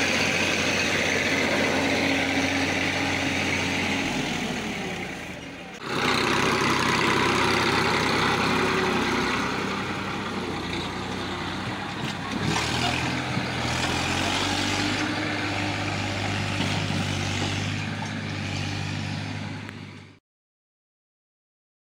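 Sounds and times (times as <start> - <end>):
tractor diesel engine running: 0.0 - 20.2.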